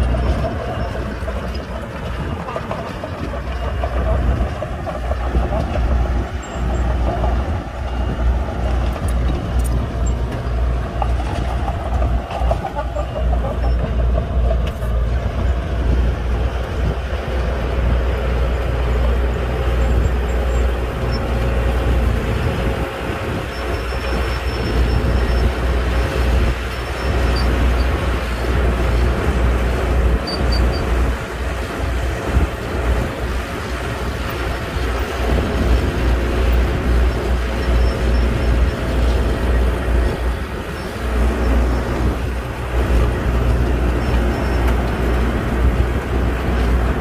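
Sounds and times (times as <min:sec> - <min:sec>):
diesel engine rumbling: 0:00.0 - 0:47.0.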